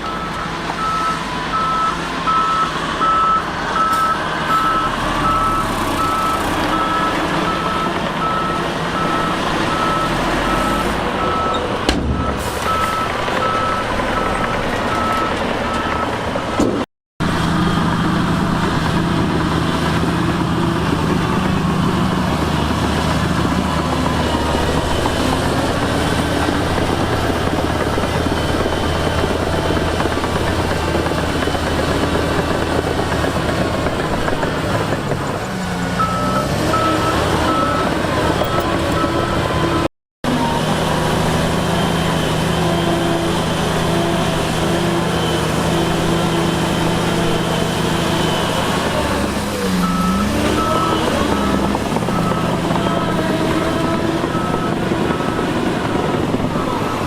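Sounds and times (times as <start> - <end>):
truck reversing alarm beeps: 0.0 - 16.9, 19.2 - 57.0
heavy diesel engines running: 0.0 - 57.0.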